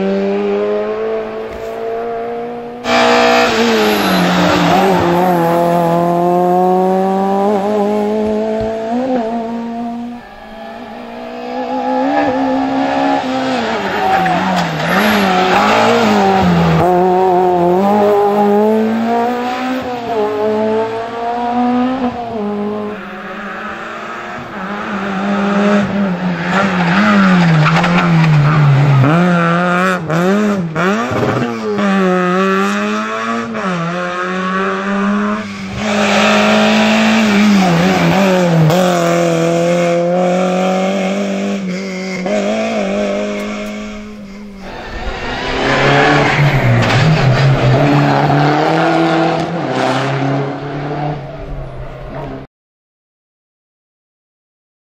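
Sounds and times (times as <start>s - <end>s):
rally car engines revving: 0.0s - 52.5s.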